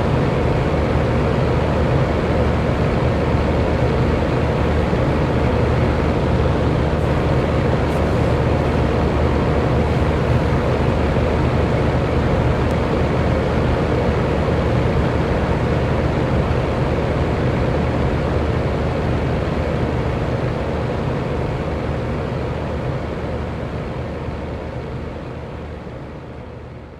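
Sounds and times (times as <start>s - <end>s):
electric fan running: 0.0s - 26.9s.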